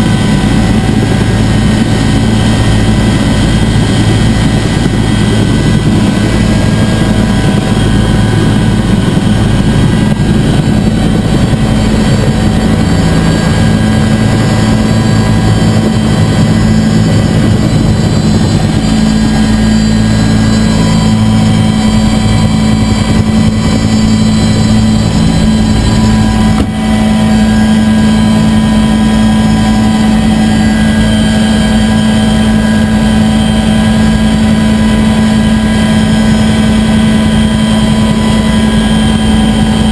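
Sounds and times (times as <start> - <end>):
helicopter engine and rotor drone: 0.0 - 39.9
high whining tones: 0.0 - 39.9.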